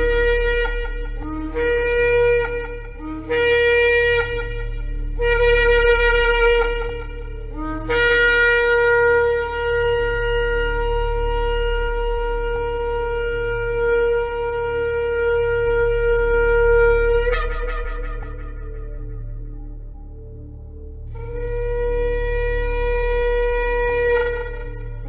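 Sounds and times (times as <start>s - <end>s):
shofar blasts: 0.0s - 25.0s
steady low hum: 0.0s - 25.0s.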